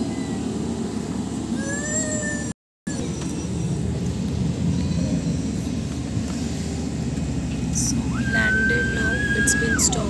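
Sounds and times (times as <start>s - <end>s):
airliner cabin noise: 0.0s - 10.0s
rising whine: 0.0s - 10.0s.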